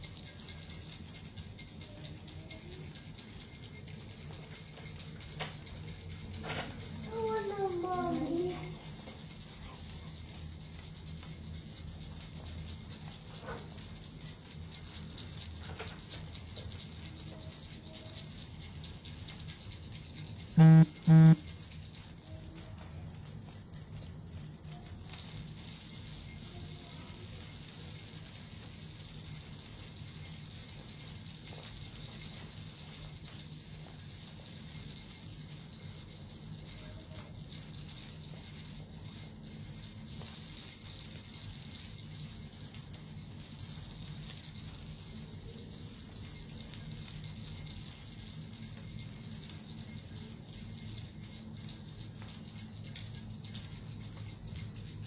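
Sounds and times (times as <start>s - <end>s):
small bells jingling: 0.0s - 55.0s.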